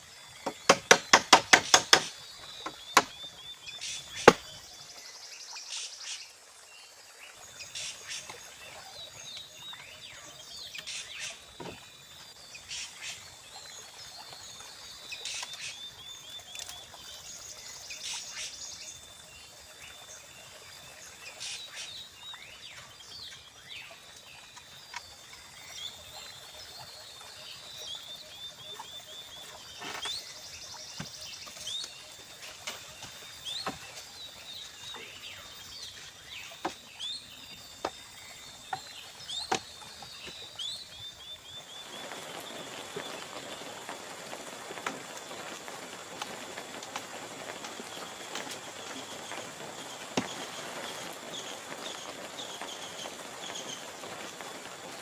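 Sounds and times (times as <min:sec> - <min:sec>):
insects trilling: 0:07.6 - 0:55.0.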